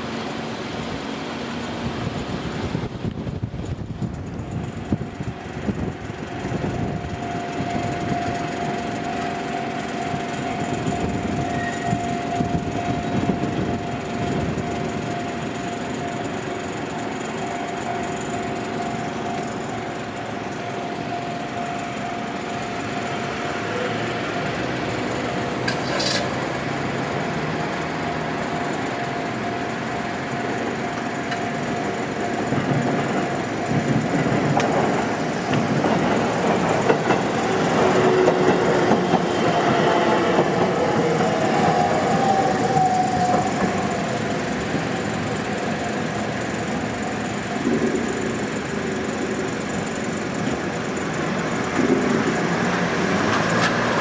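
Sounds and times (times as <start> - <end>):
mid-pitched whine: 0.0 - 38.4, 40.3 - 53.0
train wheels rumbling on rail: 0.0 - 54.0.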